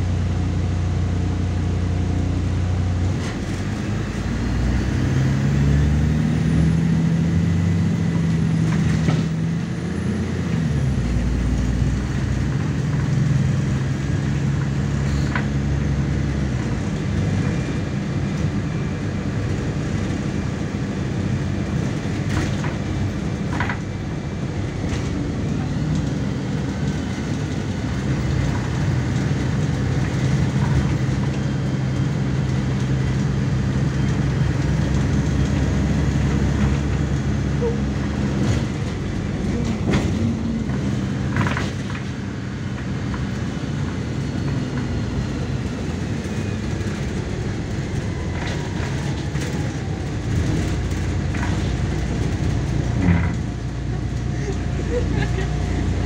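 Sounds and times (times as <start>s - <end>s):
bus engine pulling away: 0.0s - 56.0s.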